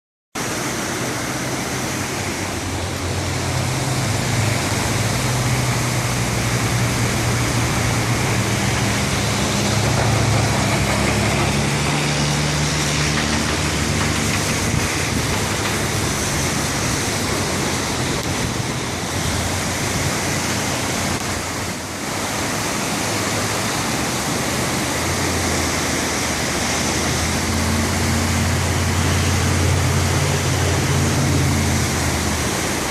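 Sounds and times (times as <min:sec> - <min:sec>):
creek water rushing: 0:00.4 - 0:32.9.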